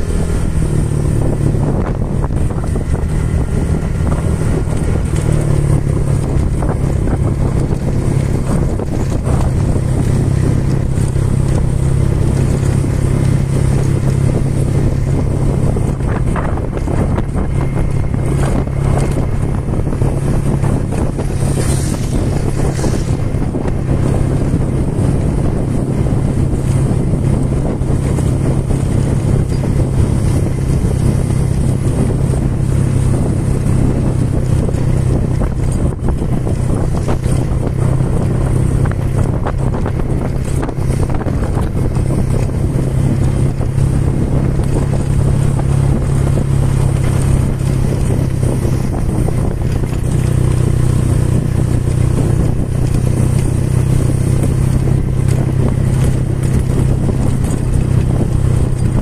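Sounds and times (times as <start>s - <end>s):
vehicle engine humming: 0.0s - 59.0s
wind and road noise: 0.0s - 59.0s.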